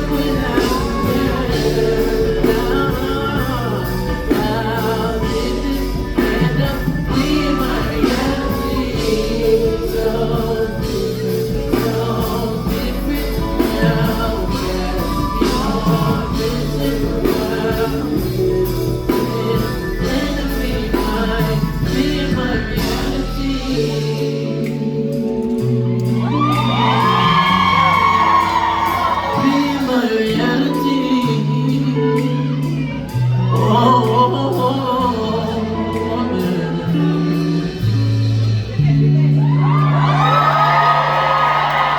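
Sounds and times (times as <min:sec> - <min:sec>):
drums steady beat: 0:00.0 - 0:41.9
held bass notes: 0:00.0 - 0:41.9
live band playing soul: 0:00.0 - 0:41.9
person singing: 0:00.0 - 0:41.9.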